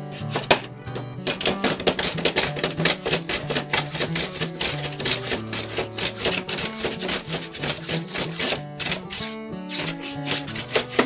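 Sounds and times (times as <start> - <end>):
block plane rasping strokes: 0.0 - 11.0.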